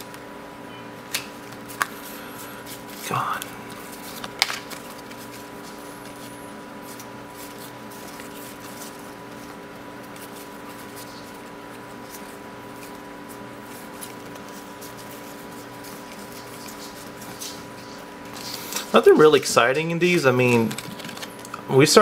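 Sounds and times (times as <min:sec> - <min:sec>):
steady background hum: 0:00.0 - 0:22.0
cards being shuffled: 0:01.1 - 0:21.6.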